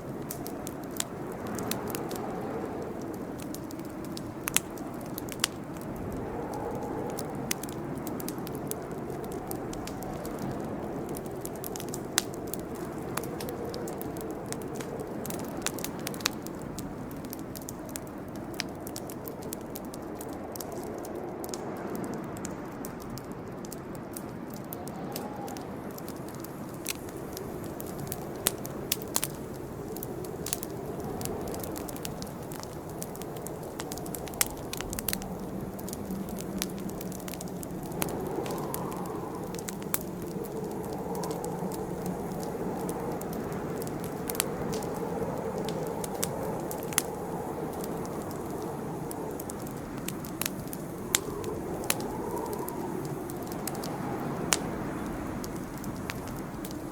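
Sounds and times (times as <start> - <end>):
campfire crackling: 0.0 - 56.9
low rush of flames: 0.0 - 56.9.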